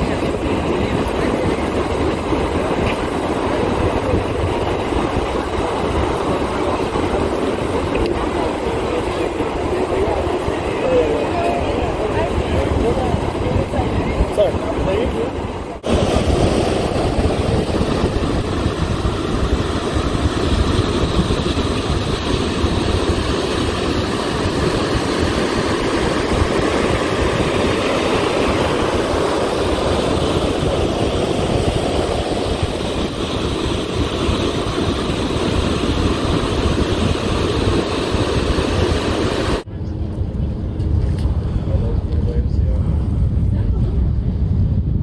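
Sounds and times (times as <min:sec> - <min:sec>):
ocean surf breaking: 0:00.0 - 0:39.7
wind on microphone: 0:00.0 - 0:45.0.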